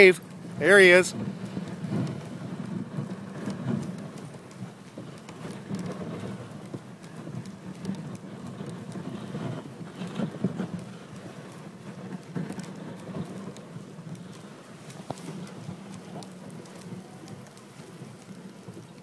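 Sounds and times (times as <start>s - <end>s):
hooves crunching on snow: 0.0s - 19.0s.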